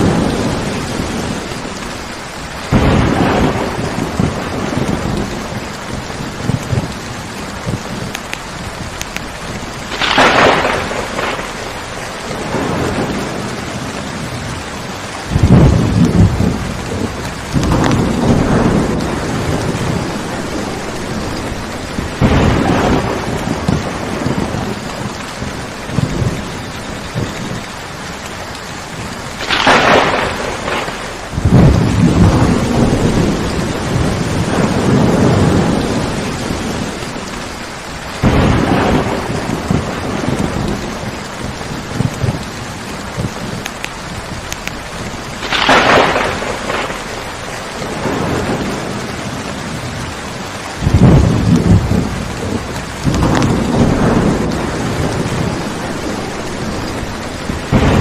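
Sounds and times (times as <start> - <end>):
low thunder rumbles: 0.0 - 58.0
steady rain: 0.0 - 58.0
sharp thunder cracks: 2.7 - 8.2, 8.8 - 14.5, 15.2 - 27.6, 29.3 - 37.5, 38.2 - 50.0, 50.8 - 58.0.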